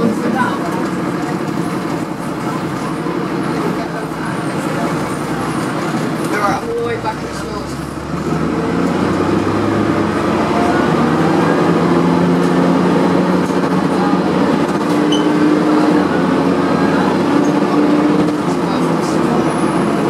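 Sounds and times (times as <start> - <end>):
bus engine accelerating: 0.0 - 20.0.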